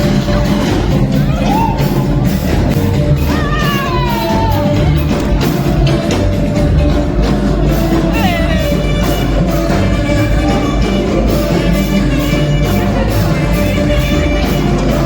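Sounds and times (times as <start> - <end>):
song with vocals over beat: 0.0 - 15.0.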